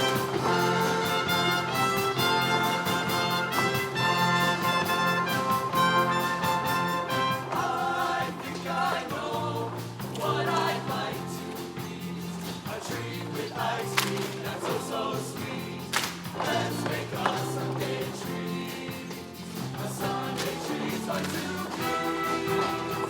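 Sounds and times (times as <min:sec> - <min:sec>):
band playing: 0:00.0 - 0:23.0
choir singing: 0:00.0 - 0:23.0.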